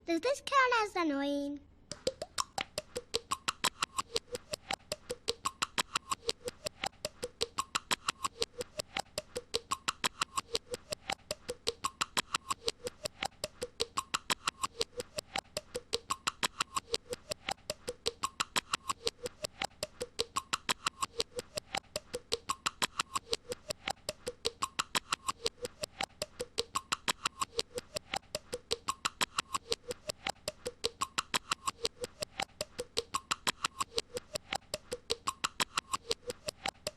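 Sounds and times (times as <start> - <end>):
rapid even clicks: 1.9 - 36.9.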